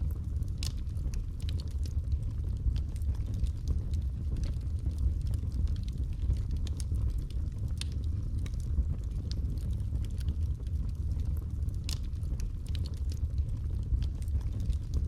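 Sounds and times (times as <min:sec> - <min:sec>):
low rumble of fire: 0:00.0 - 0:15.0
wood crackling and popping: 0:00.0 - 0:15.0.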